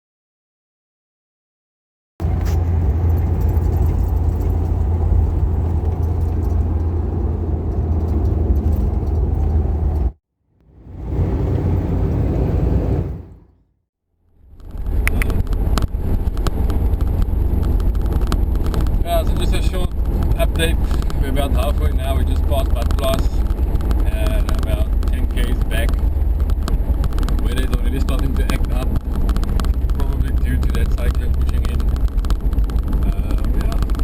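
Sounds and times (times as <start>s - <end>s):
clicks and rattles: 2.2s - 10.1s, 14.5s - 34.0s
car engine rumble: 2.2s - 13.6s, 14.3s - 34.0s
road noise: 2.2s - 34.0s.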